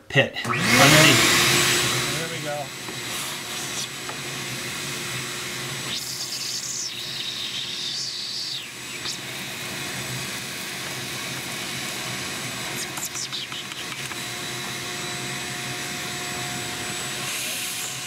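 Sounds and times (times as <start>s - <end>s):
vacuum cleaner running: 0.5s - 18.0s
vacuum nozzle hissing: 0.5s - 18.0s.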